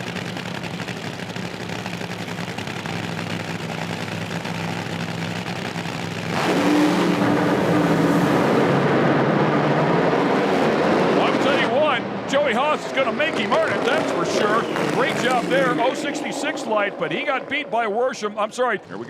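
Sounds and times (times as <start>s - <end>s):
drag race car engines: 0.0s - 19.0s.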